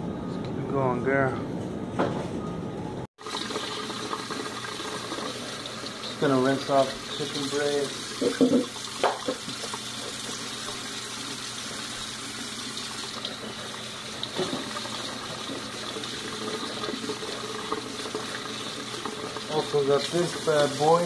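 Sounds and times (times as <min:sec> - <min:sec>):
faucet running into sink: 0:03.2 - 0:21.0.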